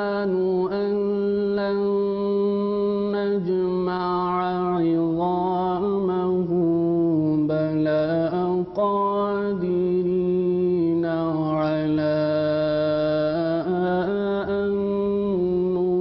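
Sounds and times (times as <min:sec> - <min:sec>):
man chanting melodically: 0:00.0 - 0:16.0.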